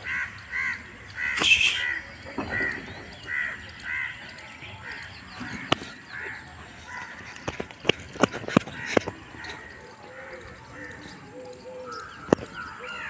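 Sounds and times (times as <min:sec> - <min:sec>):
crows cawing: 0:00.0 - 0:13.0.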